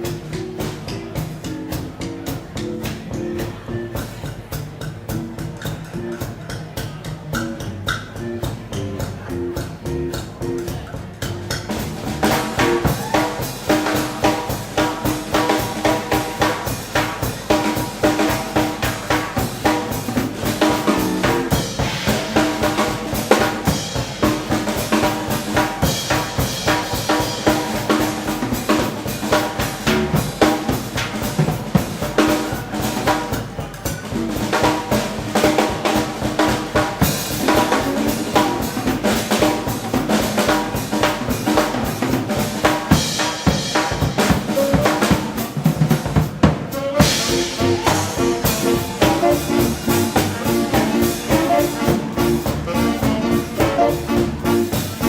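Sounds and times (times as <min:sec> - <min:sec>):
snare and bass drum beat: 0:00.0 - 0:55.0
swing band playing: 0:00.0 - 0:55.0.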